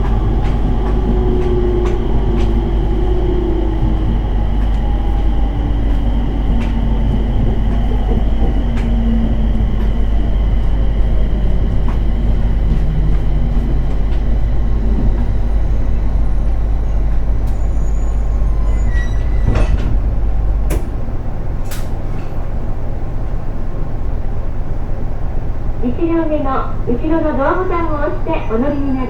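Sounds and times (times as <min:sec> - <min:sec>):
train interior rumble: 0:00.0 - 0:29.0.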